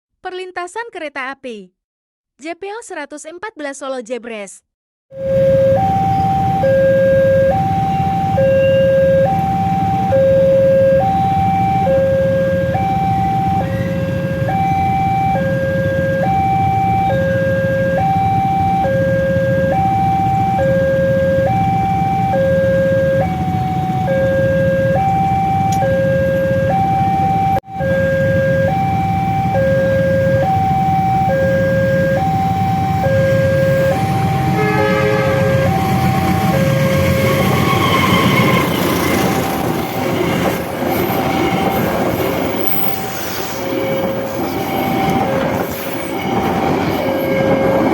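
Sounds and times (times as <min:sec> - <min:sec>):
two-tone crossing alarm: 0:05.1 - 0:47.9.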